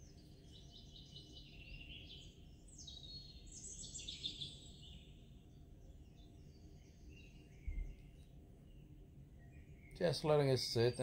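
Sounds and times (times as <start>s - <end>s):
birds chirping: 0.0s - 11.0s
low background noise: 0.0s - 11.0s.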